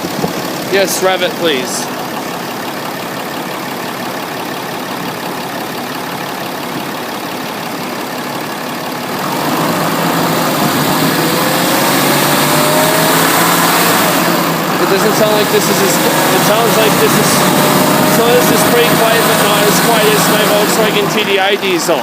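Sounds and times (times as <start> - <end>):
diesel engine idling and revving: 0.0 - 22.0.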